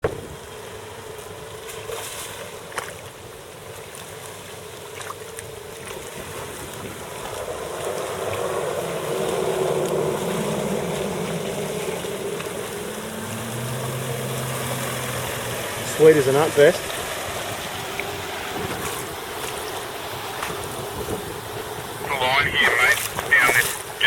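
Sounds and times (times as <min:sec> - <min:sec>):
creek water rushing: 0:00.4 - 0:24.0.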